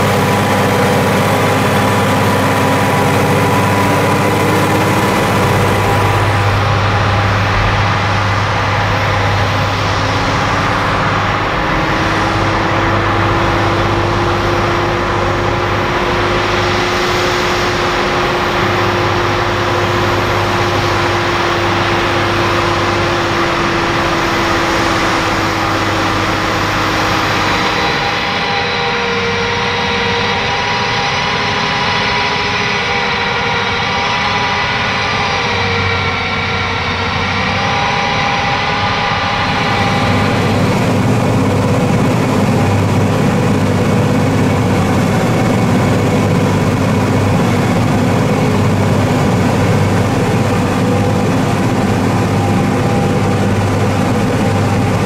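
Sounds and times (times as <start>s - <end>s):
power harrow whine: 0.0s - 55.0s
tractor diesel engine under load: 0.0s - 55.0s.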